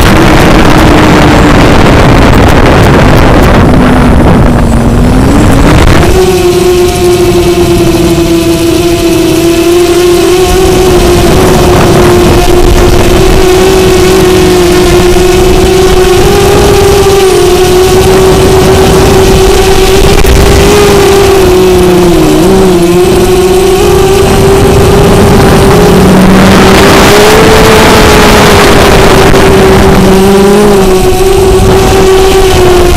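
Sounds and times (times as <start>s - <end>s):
drone propellers whining: 0.0s - 32.9s
low rumble of air: 0.0s - 32.9s.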